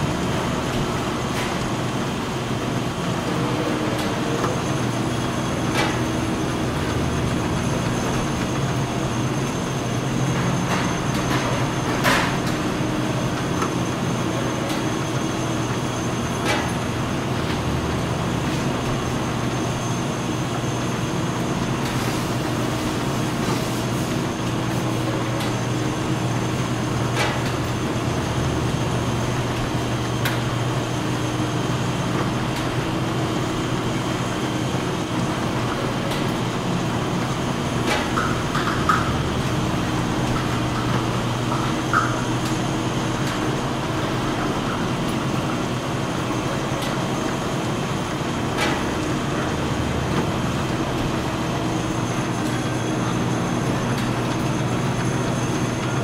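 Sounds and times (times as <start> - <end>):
bottling machine humming: 0.0 - 56.0.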